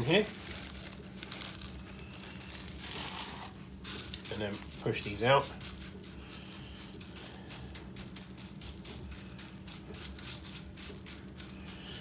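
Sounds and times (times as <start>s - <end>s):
ceramic beans clicking: 0.0s - 2.8s, 3.9s - 12.0s
cling film crinkling: 0.0s - 12.0s
low steady hum: 0.0s - 12.0s.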